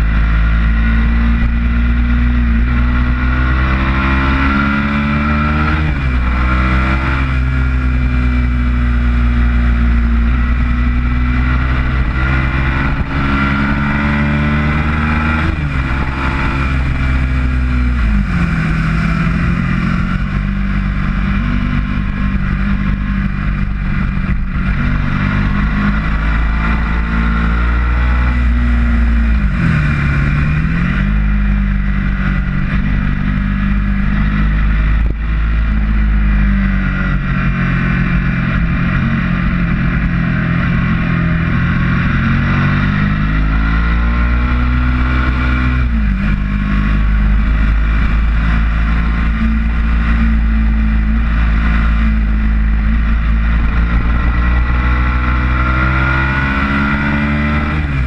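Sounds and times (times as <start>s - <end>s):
motorcycle engine at speed: 0.0s - 58.0s
wind rush: 10.0s - 58.0s.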